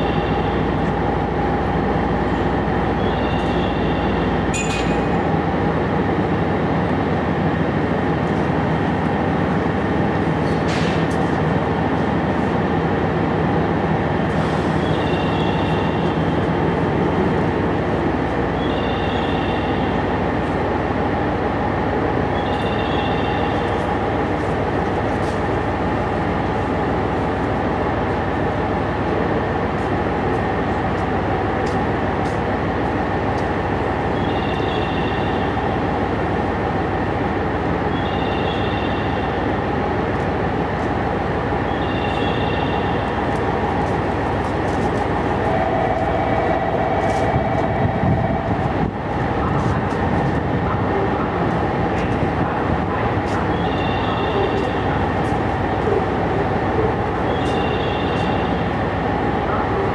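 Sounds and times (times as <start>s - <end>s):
diesel railcar rumbling: 0.0s - 59.9s.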